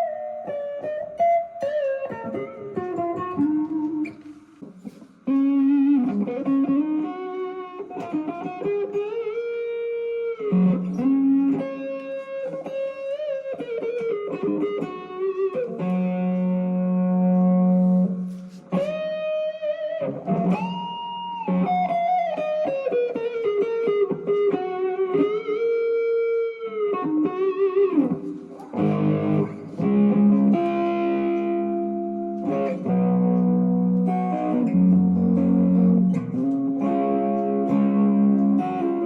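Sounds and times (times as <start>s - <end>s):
electric guitar lead line: 0.0s - 39.0s.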